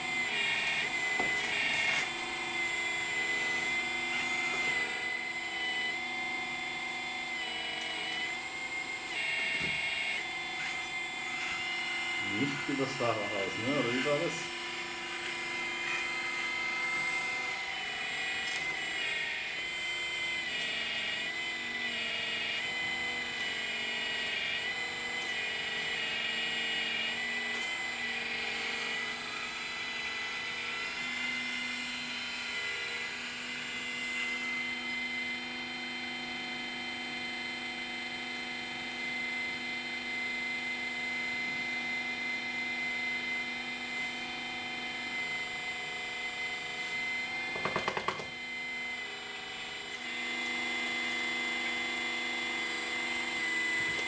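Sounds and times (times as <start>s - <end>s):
small electric motors whining: 0.0s - 54.0s.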